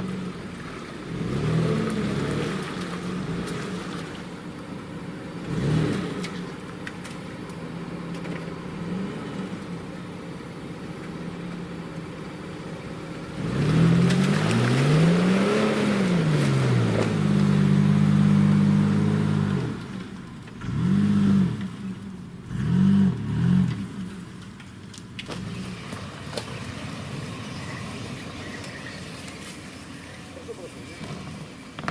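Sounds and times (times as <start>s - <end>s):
suv engine revving: 0.0s - 31.9s.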